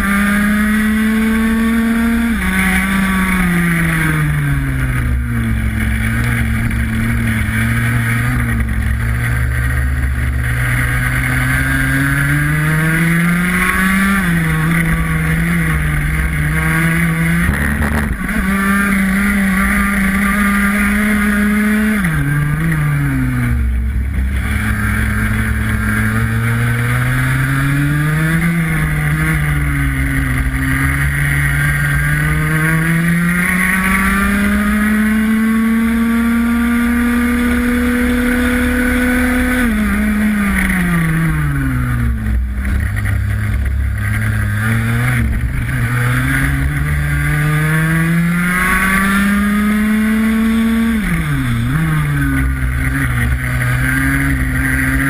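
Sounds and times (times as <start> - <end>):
racing kart engine revving: 0.0 - 55.0.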